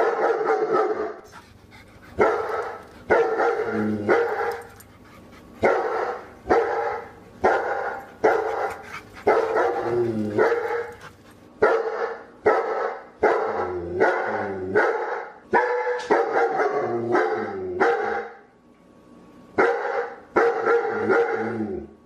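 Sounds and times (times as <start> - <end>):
dog barking: 0.0 - 1.2, 2.2 - 4.8, 5.6 - 11.0, 11.6 - 18.4, 19.6 - 21.5.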